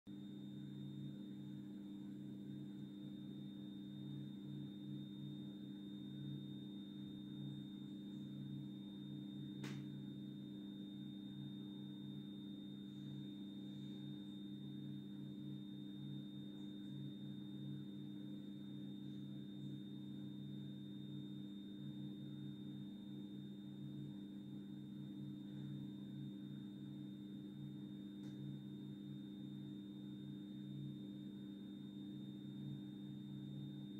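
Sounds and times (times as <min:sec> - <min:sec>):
faint high-pitched whine: 0:00.1 - 0:33.9
low electrical hum: 0:00.1 - 0:33.9.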